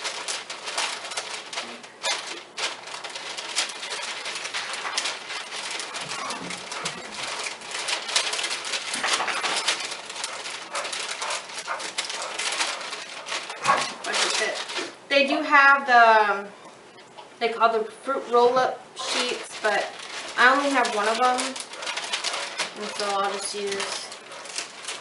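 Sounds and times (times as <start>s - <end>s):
paper crinkling and tearing: 0.0s - 15.3s, 19.0s - 25.0s.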